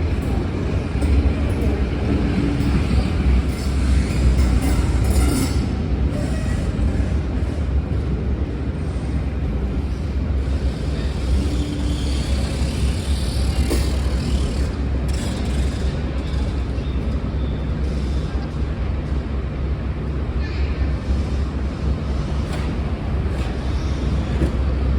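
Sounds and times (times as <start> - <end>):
diesel locomotive engines rumbling: 0.0 - 24.9.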